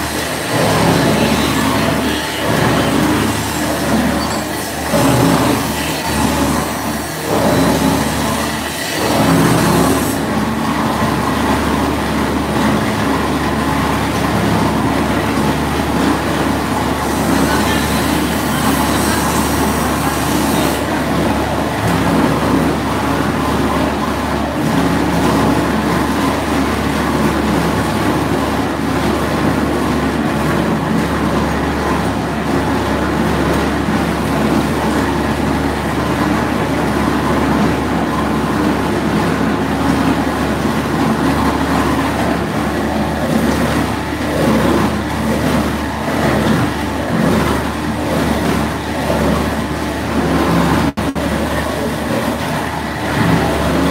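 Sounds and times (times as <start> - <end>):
bowl cutter machine chopping: 0.0 - 53.9.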